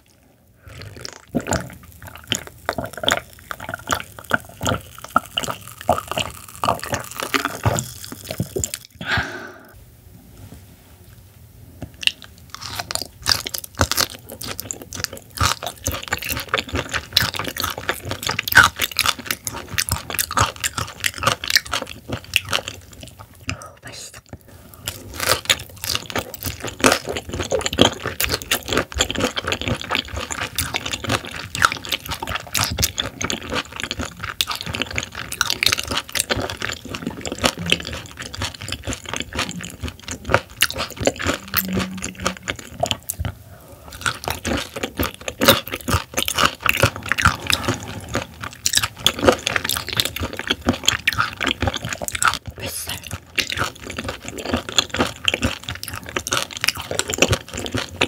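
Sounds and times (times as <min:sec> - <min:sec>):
wet chewing mouth clicks: 0:00.7 - 0:09.0, 0:12.0 - 0:23.6, 0:25.1 - 0:58.0.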